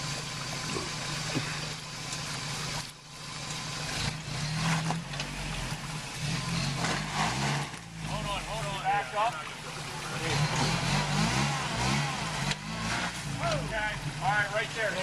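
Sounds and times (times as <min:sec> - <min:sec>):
engine revving: 0:00.0 - 0:15.0
engine running under load: 0:00.0 - 0:15.0.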